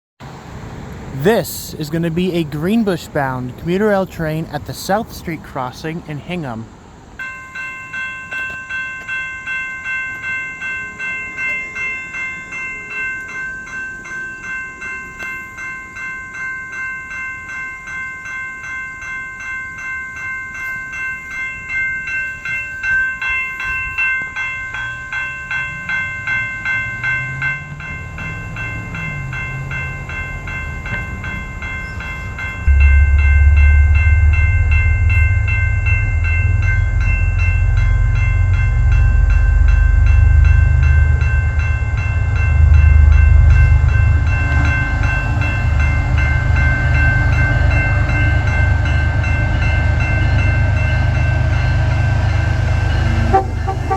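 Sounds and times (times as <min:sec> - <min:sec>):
railroad crossing bell ringing: 0:00.2 - 0:53.9
train rumble: 0:00.2 - 0:53.9.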